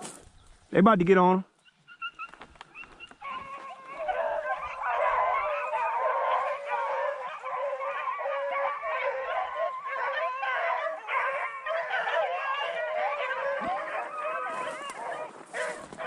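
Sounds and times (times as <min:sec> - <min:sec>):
pack of dogs baying: 0:01.9 - 0:16.0.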